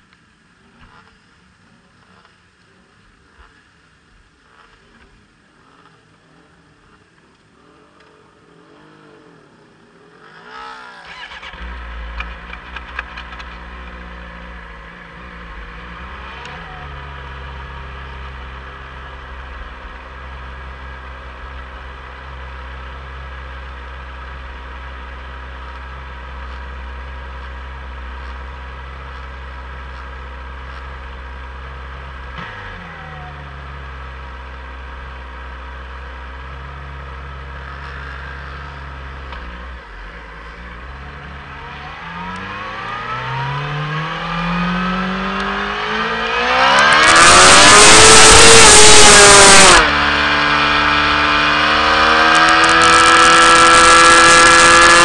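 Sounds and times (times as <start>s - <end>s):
motorcycle engine starting and idling: 4.4s - 44.6s, 45.4s - 55.0s.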